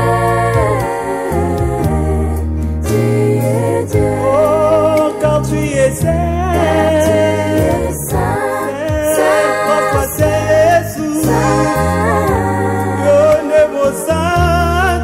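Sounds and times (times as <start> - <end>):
song with several voices: 0.0 - 15.0.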